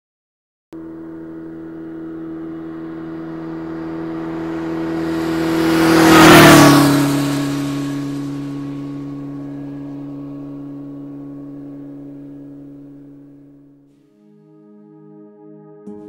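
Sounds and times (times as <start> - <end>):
humming fly-by whoosh: 0.8 - 14.8.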